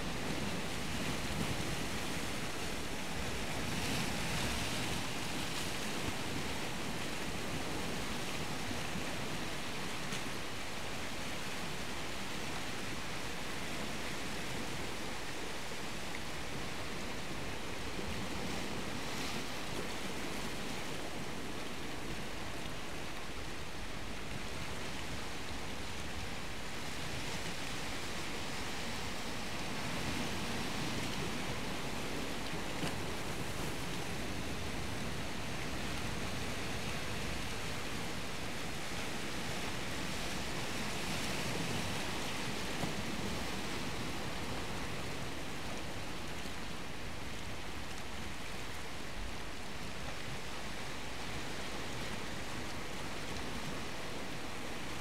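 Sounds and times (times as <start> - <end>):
sea surf washing on shore: 0.0 - 55.0.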